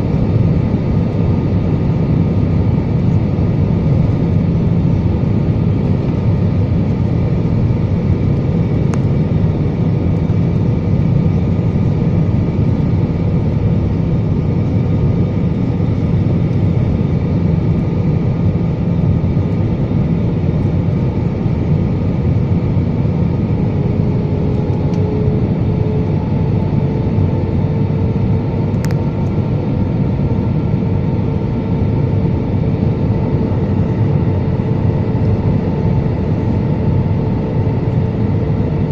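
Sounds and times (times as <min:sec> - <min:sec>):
jet engines and airflow rush: 0:00.0 - 0:38.9.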